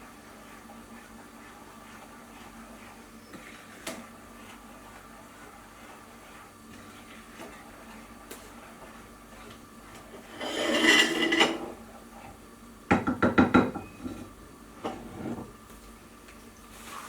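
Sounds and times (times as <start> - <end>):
spoon scraping mixing bowl: 0.0 - 12.4, 13.8 - 15.5.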